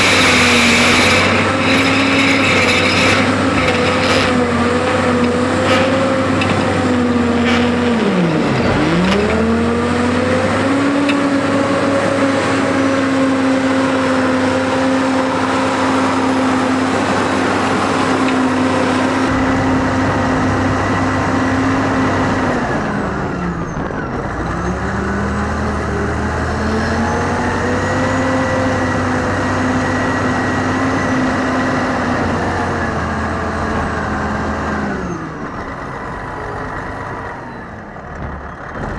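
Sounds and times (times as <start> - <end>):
wheel loader diesel engine: 0.0 - 38.9.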